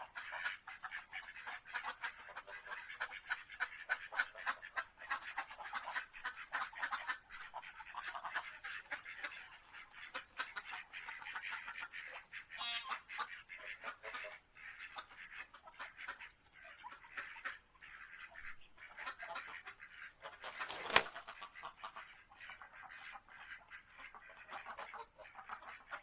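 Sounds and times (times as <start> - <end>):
flock of birds chattering: 0.0 - 26.0.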